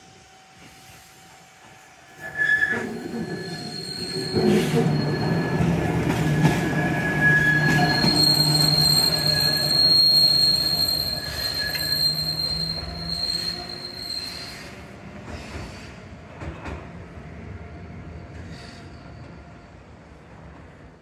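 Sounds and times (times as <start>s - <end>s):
streetcar wheels squealing on rails: 0.2s - 16.8s, 18.0s - 19.9s.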